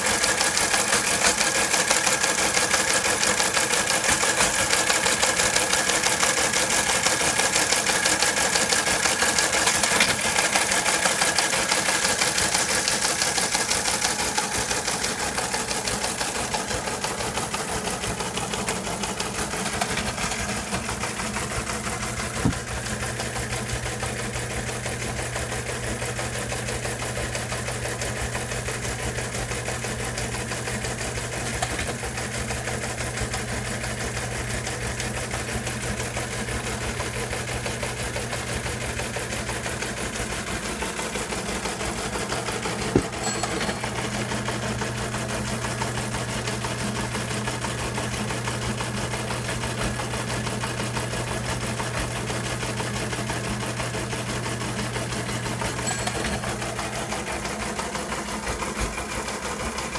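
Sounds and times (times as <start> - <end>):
motor running: 0.0 - 59.9
teleprinter clattering: 0.0 - 59.9.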